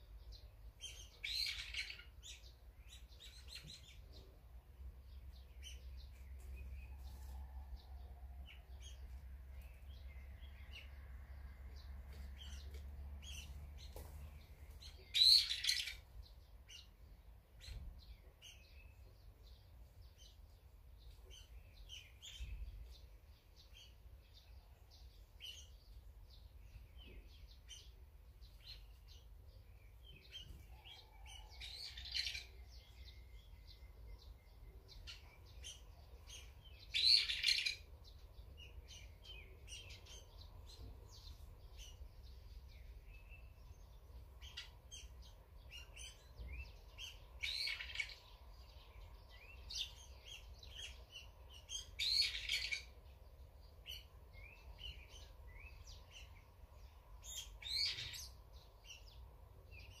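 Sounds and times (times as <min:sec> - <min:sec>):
songbirds chirping: 0:00.0 - 1:00.0.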